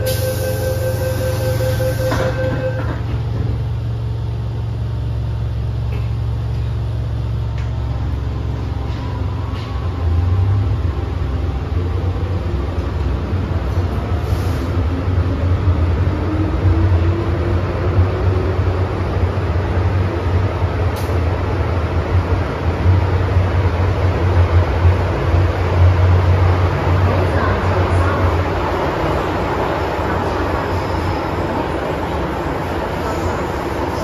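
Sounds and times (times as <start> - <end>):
train wheels and motors rumbling: 0.0 - 34.0.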